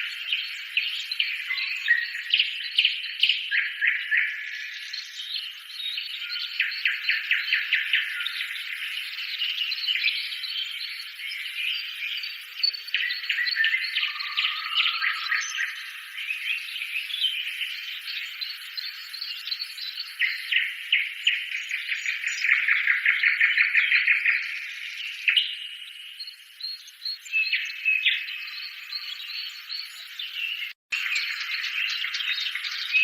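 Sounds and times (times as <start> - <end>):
small birds chirping and trilling: 0.0 - 33.0.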